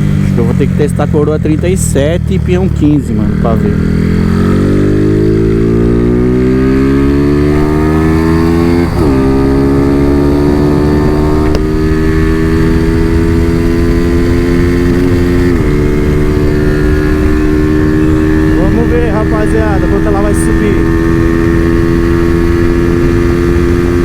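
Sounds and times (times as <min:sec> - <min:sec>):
motorcycle engine running hard: 0:00.0 - 0:24.0.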